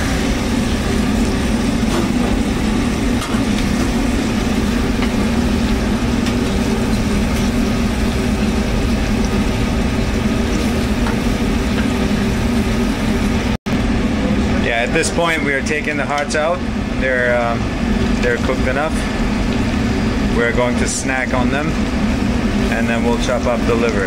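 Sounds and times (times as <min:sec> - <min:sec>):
kitchen machinery drone: 0:00.0 - 0:24.0.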